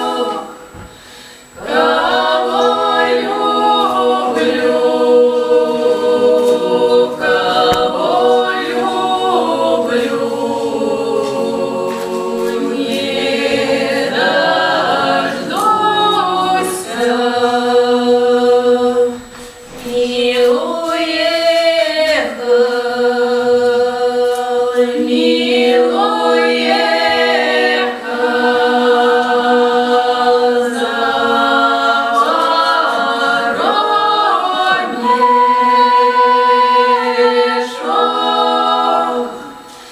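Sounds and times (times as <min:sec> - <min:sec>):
folk ensemble singing unaccompanied: 0:00.0 - 0:39.9.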